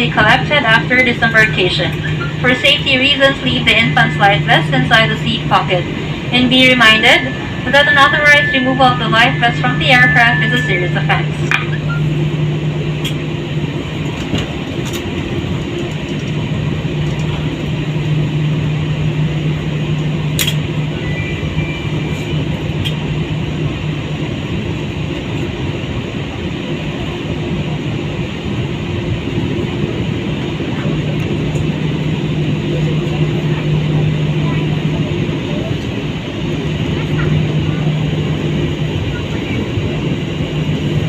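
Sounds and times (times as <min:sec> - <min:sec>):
airliner cabin hum: 0:00.0 - 0:41.0.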